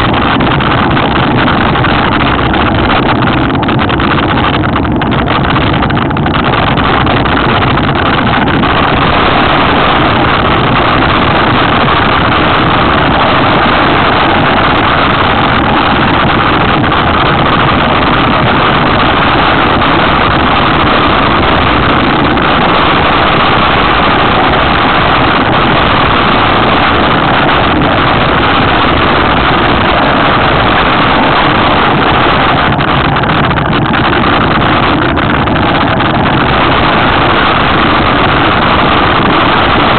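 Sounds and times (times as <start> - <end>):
tyre and trail rumble: 0.0 - 39.9
wind rushing over microphone: 0.0 - 39.9.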